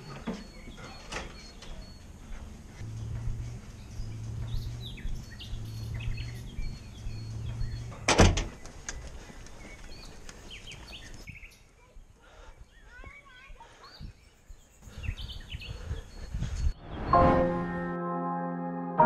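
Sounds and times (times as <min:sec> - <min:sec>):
small birds chirping: 0:00.0 - 0:17.1.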